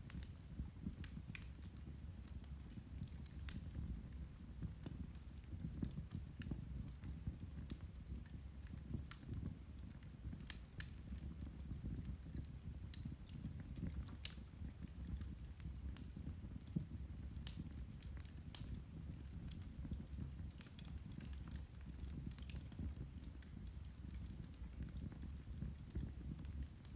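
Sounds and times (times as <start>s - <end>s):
fire crackling and popping: 0.0s - 26.9s.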